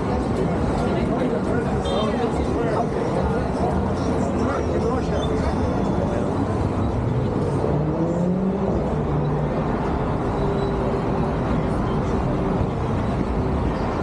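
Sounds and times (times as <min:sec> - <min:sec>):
cars passing by: 0:00.0 - 0:14.0
road traffic rumble: 0:00.0 - 0:14.0.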